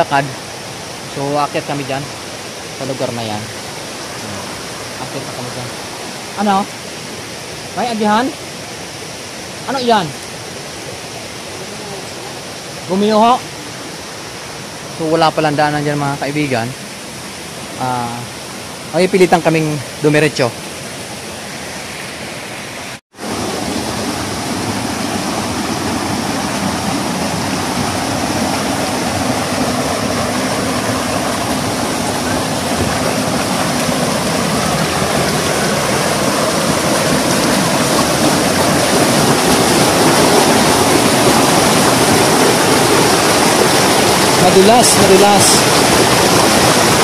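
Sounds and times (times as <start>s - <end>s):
stream rushing over boulders: 0.0s - 47.0s.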